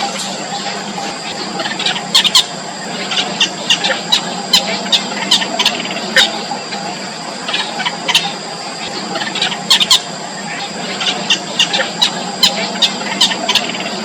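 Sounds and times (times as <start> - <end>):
bird chicks high-pitched calls: 0.0 - 14.0.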